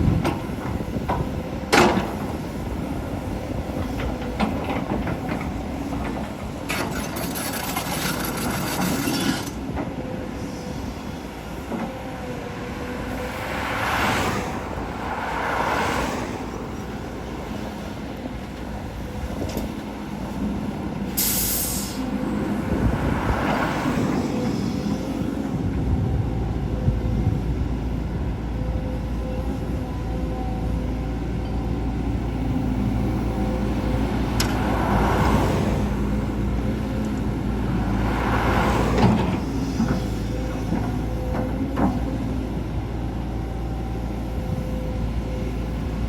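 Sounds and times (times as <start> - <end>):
excavator diesel engine under load: 0.0 - 46.0.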